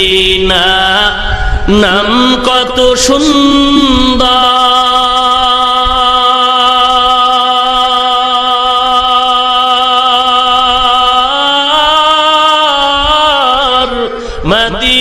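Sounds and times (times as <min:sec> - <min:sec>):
man singing a long note: 0:00.0 - 0:15.0.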